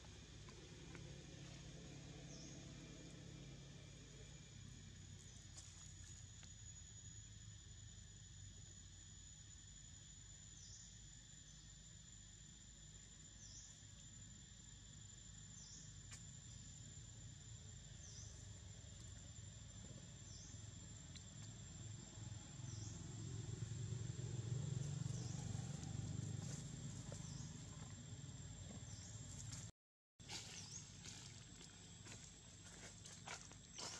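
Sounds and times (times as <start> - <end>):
insect chirp: 0.0 - 33.9
insects high-pitched whine: 0.0 - 33.9.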